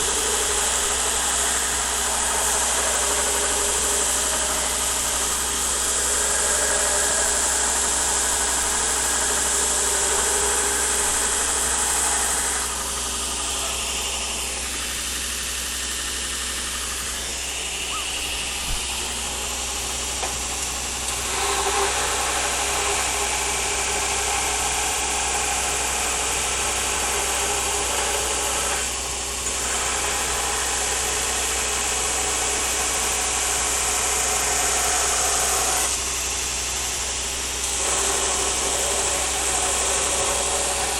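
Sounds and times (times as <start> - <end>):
running machine noise: 0.0 - 40.9.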